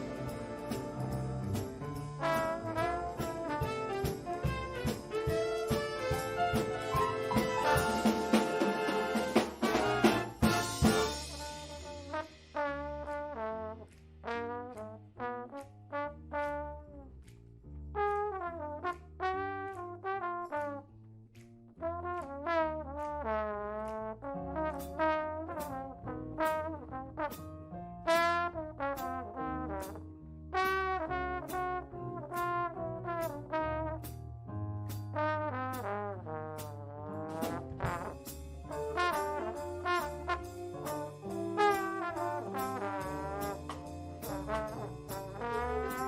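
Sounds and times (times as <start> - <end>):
brass ensemble playing: 0.0 - 17.1, 18.0 - 20.9, 21.8 - 34.2, 35.2 - 46.0.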